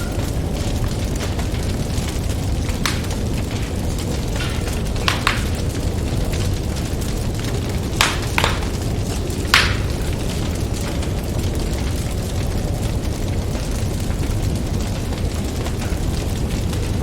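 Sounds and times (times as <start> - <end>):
fire popping: 0.0 - 17.0
snowstorm wind rumble: 0.0 - 17.0
wood fire crackling: 0.0 - 17.0.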